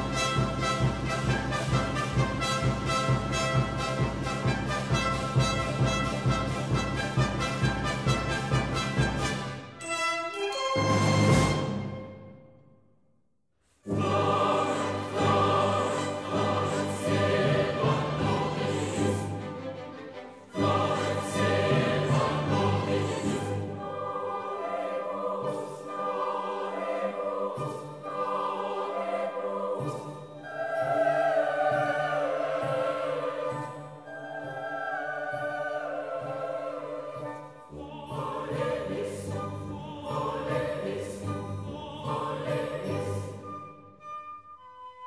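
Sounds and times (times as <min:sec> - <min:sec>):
orchestra playing: 0:00.0 - 0:12.6, 0:13.9 - 0:45.0
choir singing classical music: 0:00.0 - 0:12.8, 0:13.8 - 0:45.0.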